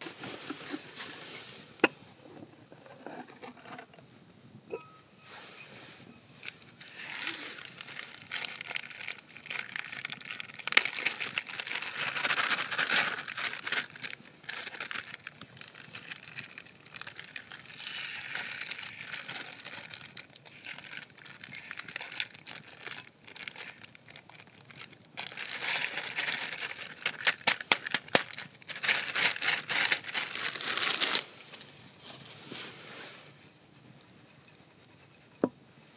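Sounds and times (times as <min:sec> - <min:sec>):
crinkling and rustling: 0:00.0 - 0:04.2, 0:05.2 - 0:35.6.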